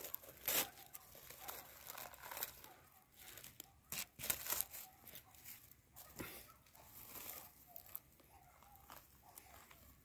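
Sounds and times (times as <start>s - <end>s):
dry leaves and twigs crackling: 0.0s - 10.0s.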